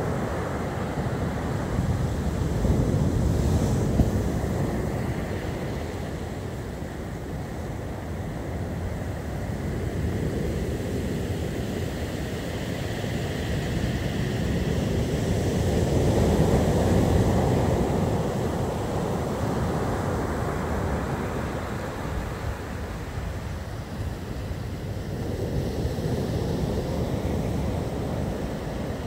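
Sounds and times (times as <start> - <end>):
storm surf breaking on beach: 0.0 - 29.0.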